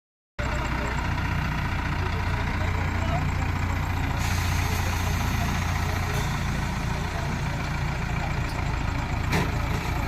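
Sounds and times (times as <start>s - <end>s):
heavy vehicle engine idling: 0.4s - 10.0s.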